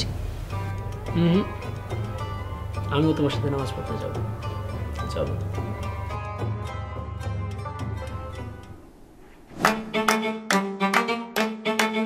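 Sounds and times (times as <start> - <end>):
music with sharp rhythmic notes: 0.0 - 8.8, 9.7 - 12.0
soft background music: 0.0 - 12.0.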